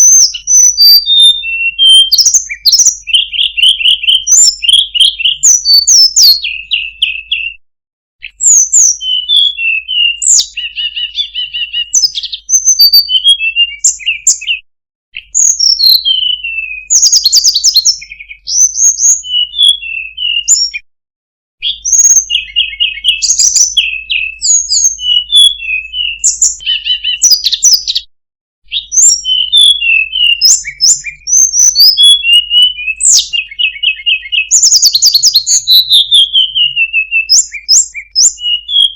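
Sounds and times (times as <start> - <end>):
bird singing chirps and trills: 0.0 - 7.6, 8.2 - 14.6, 15.2 - 20.8, 21.6 - 28.1, 28.7 - 38.9.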